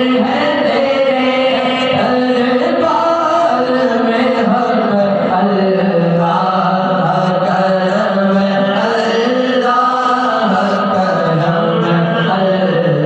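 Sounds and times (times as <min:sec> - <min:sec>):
men chanting devotional song: 0:00.0 - 0:13.0.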